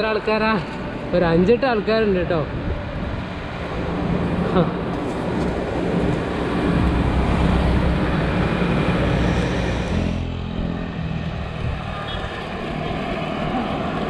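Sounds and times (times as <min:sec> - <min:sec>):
wind rumbling on microphone: 0:00.8 - 0:14.0.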